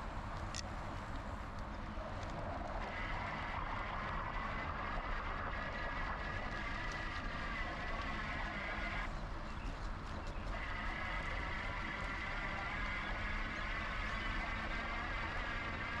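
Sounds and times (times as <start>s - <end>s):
bicycle rolling noise: 0.0s - 16.0s
steady high whine: 0.0s - 16.0s
wind rumble: 0.0s - 16.0s.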